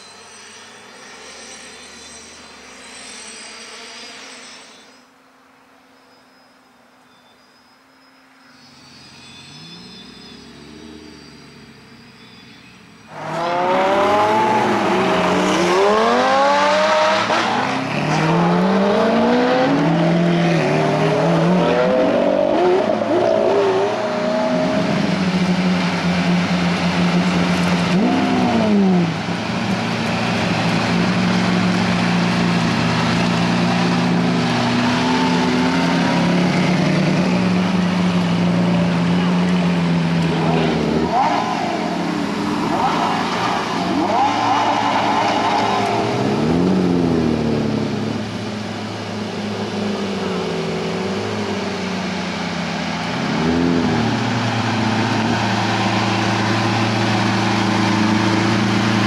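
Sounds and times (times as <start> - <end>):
sports car engines revving: 9.6 - 12.0, 13.1 - 59.0.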